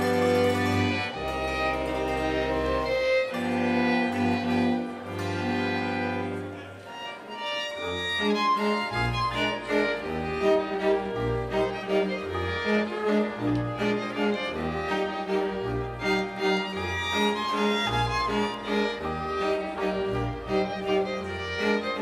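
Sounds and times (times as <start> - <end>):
string band playing folk tune: 0.0 - 22.0.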